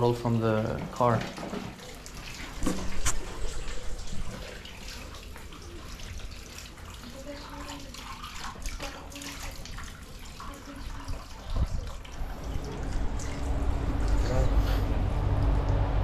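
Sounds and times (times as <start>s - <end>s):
water running into stone trough: 0.6s - 16.0s
water splashing over hands: 1.2s - 15.9s.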